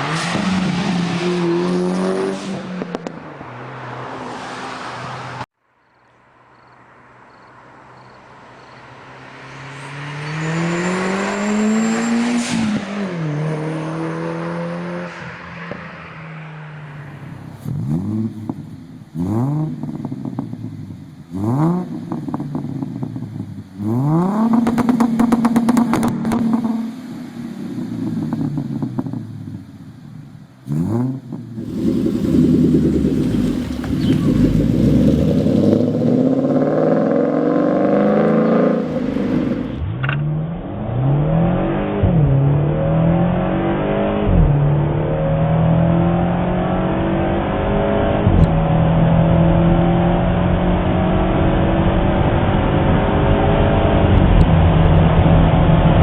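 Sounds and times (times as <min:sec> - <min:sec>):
car engine revving: 0:00.0 - 0:05.5, 0:08.4 - 0:29.8, 0:30.7 - 0:56.0
car engine accelerating: 0:07.9 - 0:29.8, 0:30.7 - 0:56.0.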